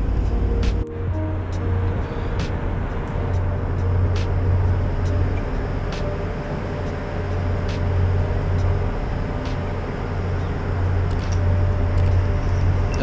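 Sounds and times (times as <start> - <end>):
faint hum: 0.0 - 13.0
low engine drone: 0.0 - 13.0.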